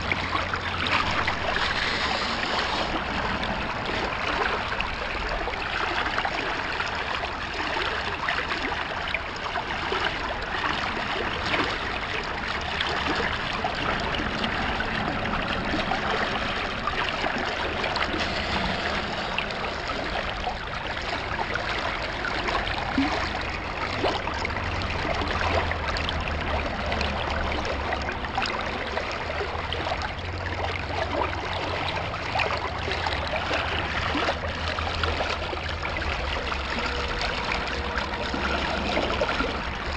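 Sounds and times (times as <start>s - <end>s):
low rumble: 0.0s - 7.1s, 10.8s - 39.9s
stream water rushing: 0.0s - 39.9s.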